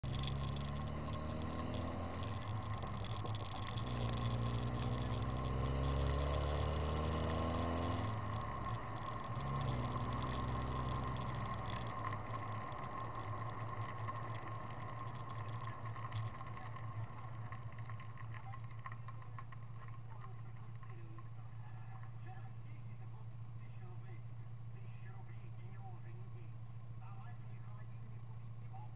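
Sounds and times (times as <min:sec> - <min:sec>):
car engine accelerating: 0:00.0 - 0:28.9
road noise: 0:00.0 - 0:28.9.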